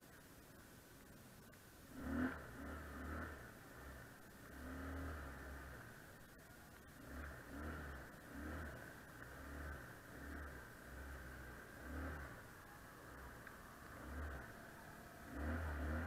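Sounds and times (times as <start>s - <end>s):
atv engine revving: 1.8s - 16.0s.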